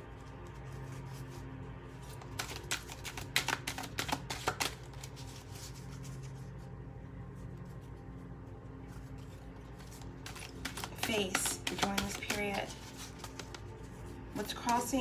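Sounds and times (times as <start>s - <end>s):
cards being shuffled: 0.0s - 6.6s, 8.7s - 15.0s
cards being handled: 0.0s - 6.7s, 8.7s - 15.0s.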